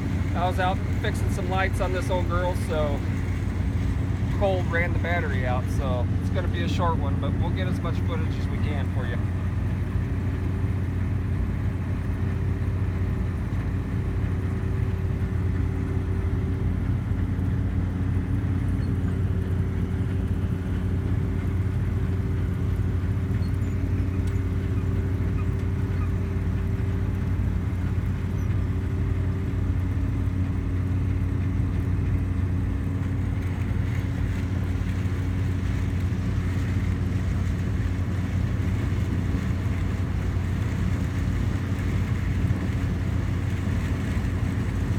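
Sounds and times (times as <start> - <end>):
combine harvester drone: 0.0 - 44.9.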